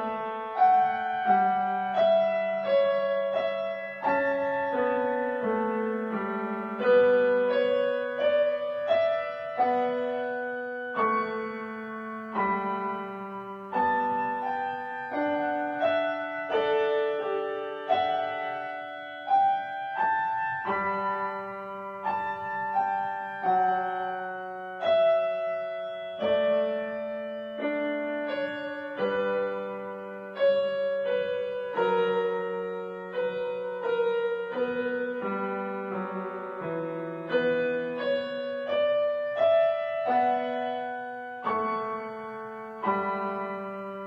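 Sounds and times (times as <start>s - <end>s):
gentle piano music: 0.0s - 44.0s.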